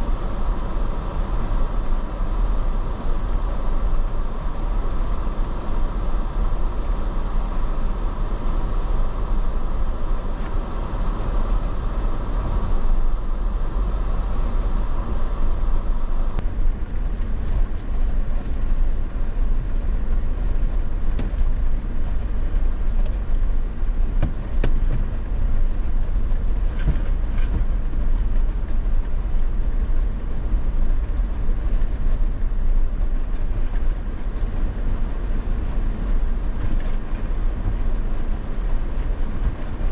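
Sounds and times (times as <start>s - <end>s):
vehicle deep rumble: 0.0s - 39.9s.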